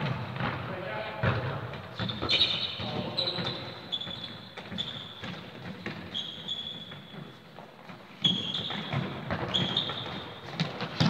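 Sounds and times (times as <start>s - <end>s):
sports shoes squeaking on floor: 1.2s - 11.0s.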